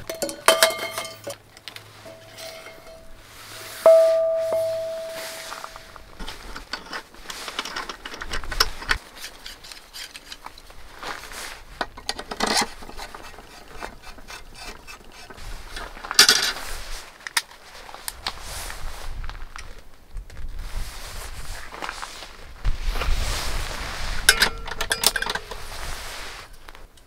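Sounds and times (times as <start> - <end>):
gear rubbing and rustling: 4.6 - 26.9.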